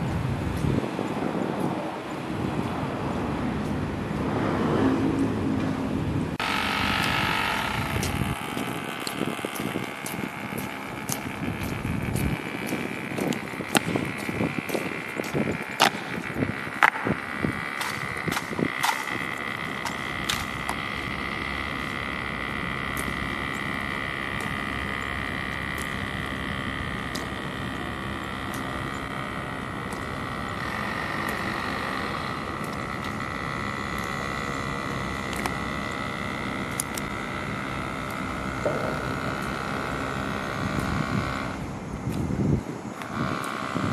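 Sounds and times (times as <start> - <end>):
continuous high hum: 0.0 - 43.9
sharp clicks: 6.4 - 42.3, 43.0 - 43.9.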